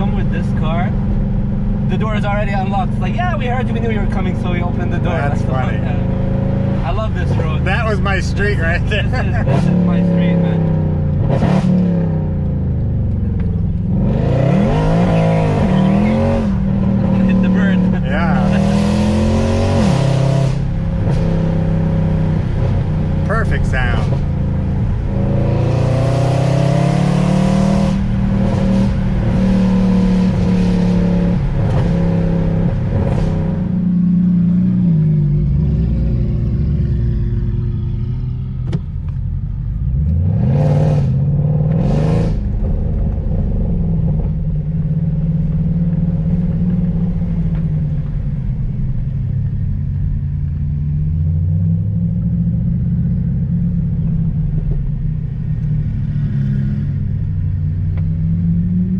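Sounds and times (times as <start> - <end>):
car engine accelerating: 0.0 - 58.9.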